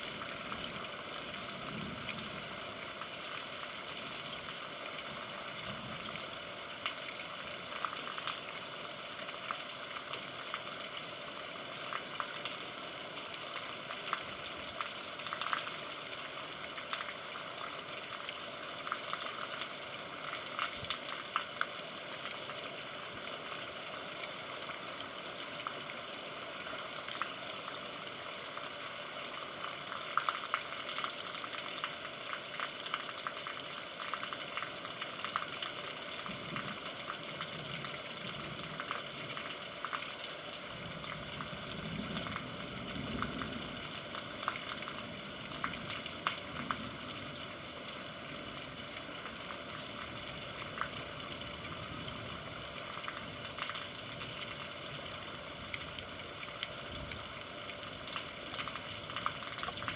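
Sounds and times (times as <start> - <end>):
rain hiss with drop ticks: 0.0 - 59.9.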